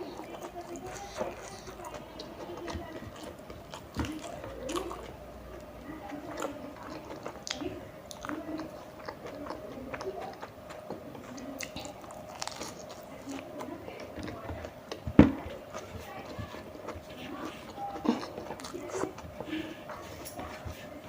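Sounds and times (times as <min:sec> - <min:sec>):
close chewing and biting: 0:00.0 - 0:21.0
faint steady hum: 0:00.0 - 0:21.0.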